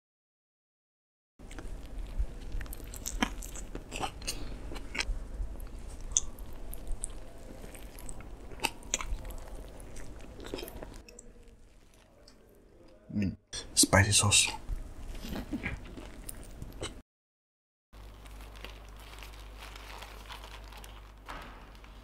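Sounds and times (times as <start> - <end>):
chewing crunchy bread roll: 1.4 - 13.0, 14.5 - 17.0, 18.0 - 22.0.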